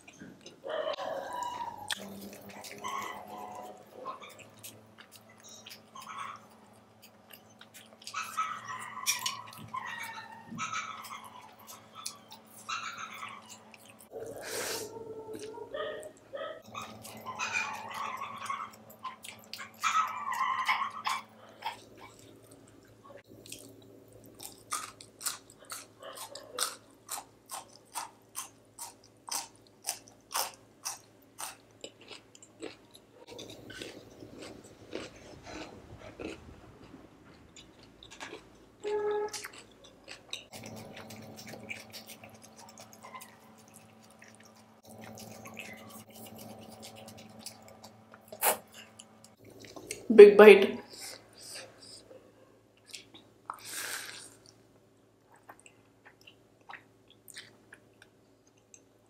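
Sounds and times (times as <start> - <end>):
wet chewing: 0.0 - 50.1, 55.3 - 58.9.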